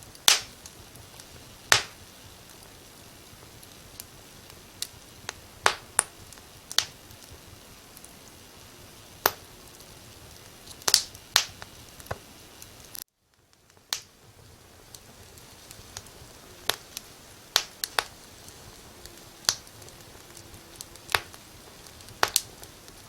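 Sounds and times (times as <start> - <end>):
low steady hiss: 0.0 - 23.0
wood fire crackling: 0.0 - 23.0.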